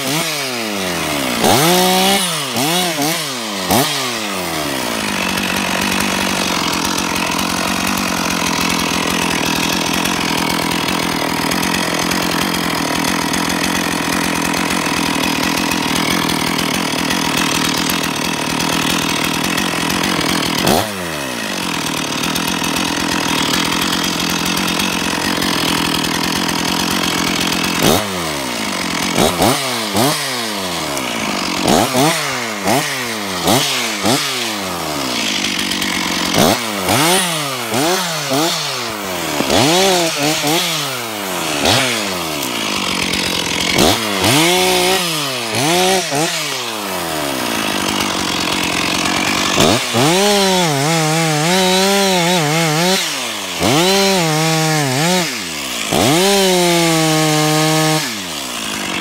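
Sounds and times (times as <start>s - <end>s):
chainsaw cutting: 0.0s - 59.0s.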